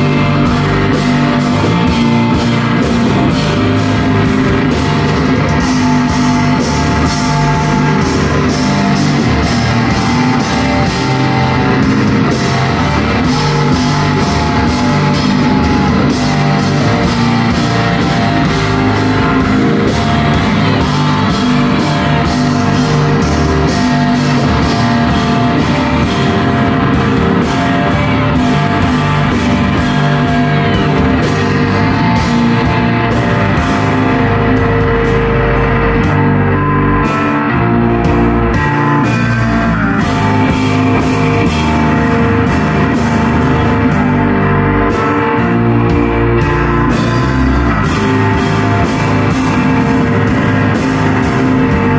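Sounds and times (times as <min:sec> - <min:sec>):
drum kit: 0:00.0 - 0:51.9
electric guitars: 0:00.0 - 0:51.9.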